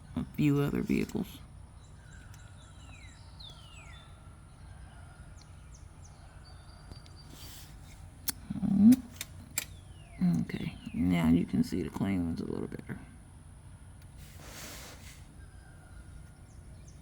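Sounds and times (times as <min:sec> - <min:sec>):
birds calling: 0:00.0 - 0:17.0
steady low hum: 0:00.0 - 0:17.0.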